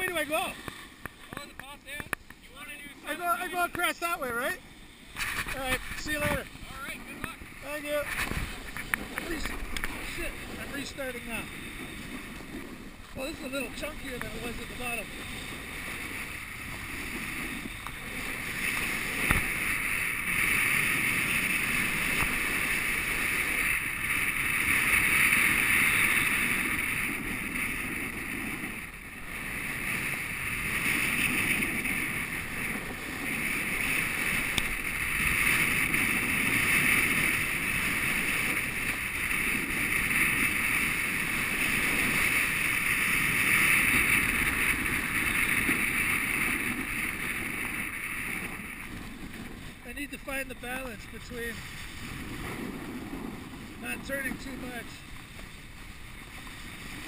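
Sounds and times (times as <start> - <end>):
snowboard scraping on snow: 0.0 - 57.0
wind on microphone: 0.0 - 57.0.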